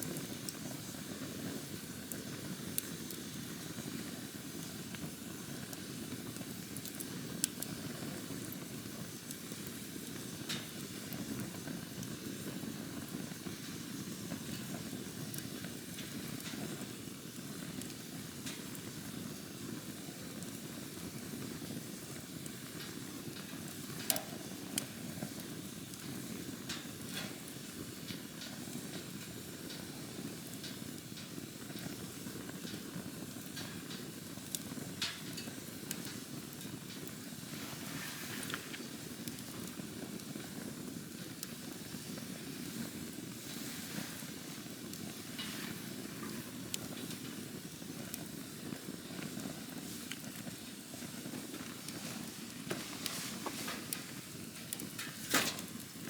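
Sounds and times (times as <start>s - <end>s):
burning wood crackling and popping: 0.0s - 56.0s
rush of flames: 0.0s - 56.0s.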